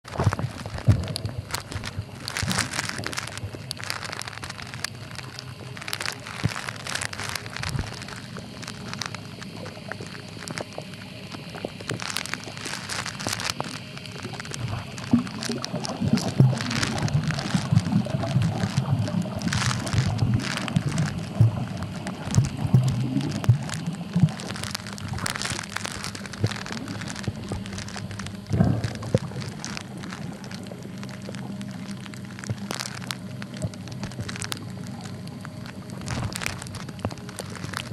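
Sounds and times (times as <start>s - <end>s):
steady low hum: 0.0s - 37.9s
underwater crackling and clicks: 0.0s - 37.9s
water rushing: 0.1s - 37.9s.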